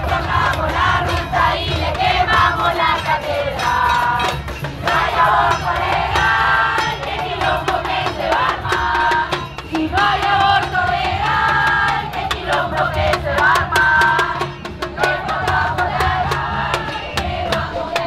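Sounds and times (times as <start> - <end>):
crowd singing and chanting: 0.0 - 18.0
drums beating: 0.0 - 18.0
sharp percussion hits: 0.0 - 18.0.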